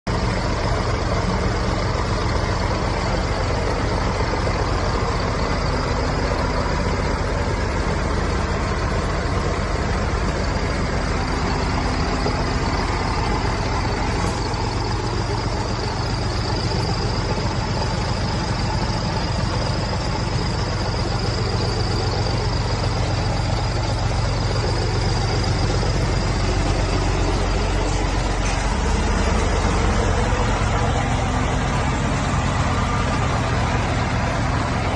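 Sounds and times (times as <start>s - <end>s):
truck diesel engine running: 0.0s - 34.9s.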